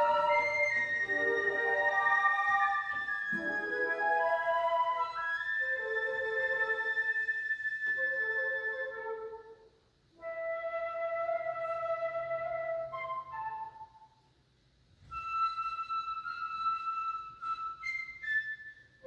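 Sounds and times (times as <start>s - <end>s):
flute trio playing held notes: 0.0s - 14.2s, 15.0s - 19.0s.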